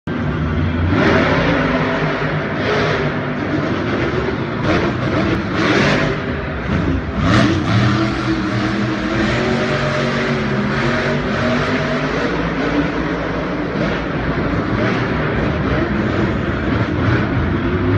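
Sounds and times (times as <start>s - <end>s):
truck engines revving: 0.0s - 17.9s.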